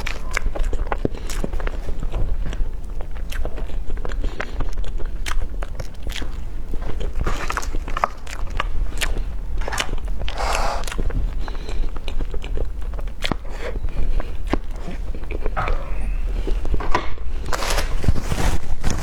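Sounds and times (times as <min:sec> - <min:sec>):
person biting and chewing food: 0:00.0 - 0:19.0.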